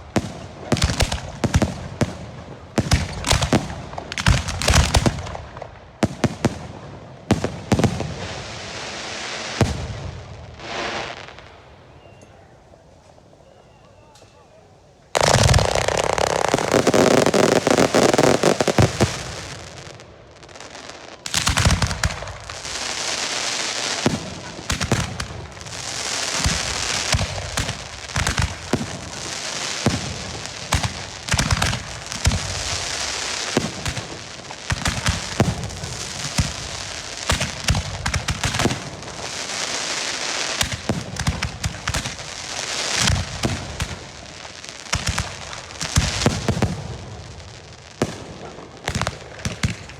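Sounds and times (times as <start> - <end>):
fireworks rockets crackling: 0.0 - 49.9.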